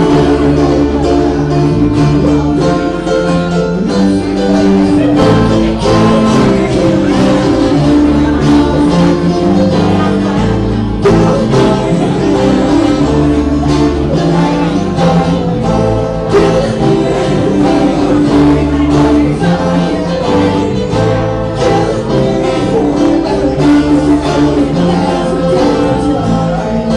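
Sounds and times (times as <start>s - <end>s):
bass guitar: 0.0s - 26.9s
guitar: 0.0s - 26.9s
person singing: 0.0s - 26.9s.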